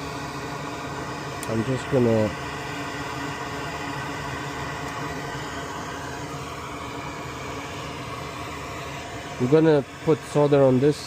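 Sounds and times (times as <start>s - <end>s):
fan whirring: 0.0s - 11.0s.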